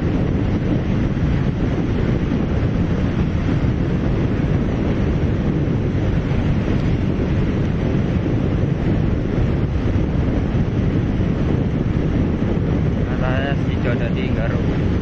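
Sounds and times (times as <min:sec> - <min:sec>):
motorcycle tyre riding noise: 0:00.0 - 0:15.0
wind rushing over microphone: 0:00.0 - 0:15.0.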